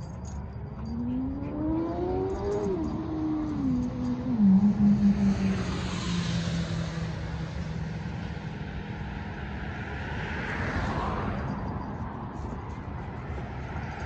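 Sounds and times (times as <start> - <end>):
vehicle engine passing: 0.0 - 14.0.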